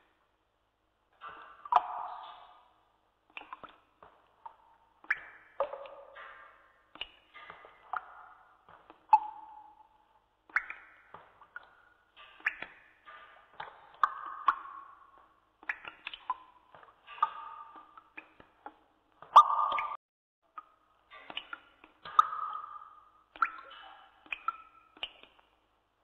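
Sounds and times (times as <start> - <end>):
water dripping with echo: 1.1 - 26.0.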